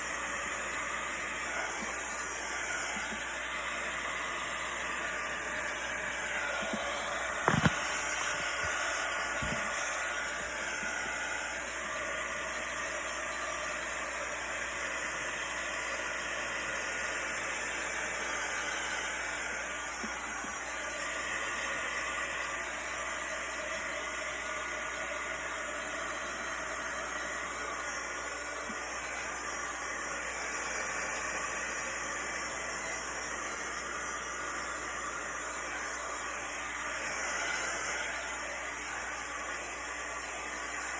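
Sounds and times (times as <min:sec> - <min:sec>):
heat gun hissing: 0:00.0 - 0:40.9.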